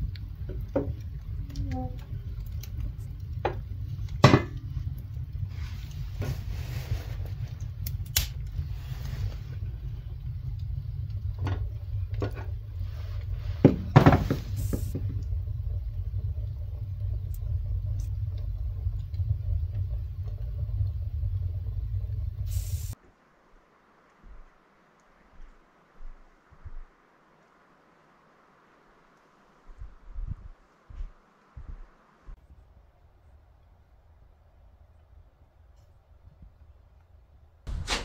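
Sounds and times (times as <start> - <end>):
low rumble: 0.0 - 23.6, 28.6 - 38.0.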